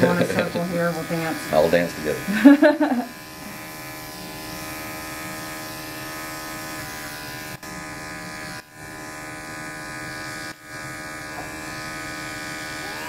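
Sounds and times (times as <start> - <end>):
electric clippers buzzing: 0.0 - 13.0.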